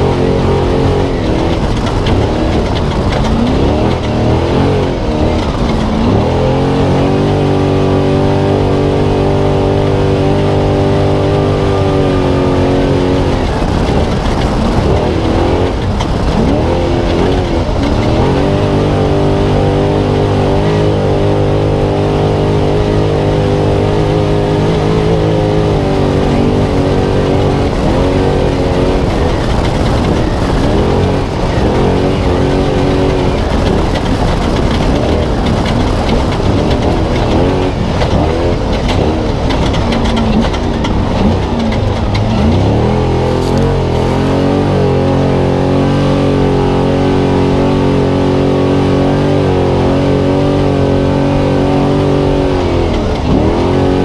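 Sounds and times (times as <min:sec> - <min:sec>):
race truck engine revving: 0:00.0 - 0:54.0.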